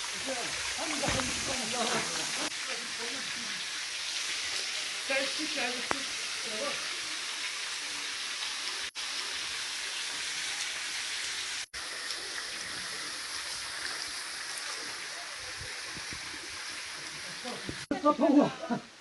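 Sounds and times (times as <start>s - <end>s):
waterfall spray hissing: 0.0s - 17.9s.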